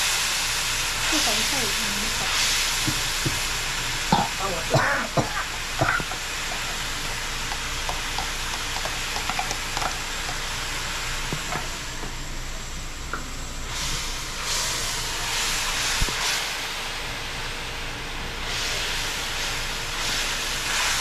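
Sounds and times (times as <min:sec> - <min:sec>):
oil sizzling and bubbling in pot: 0:00.0 - 0:21.0.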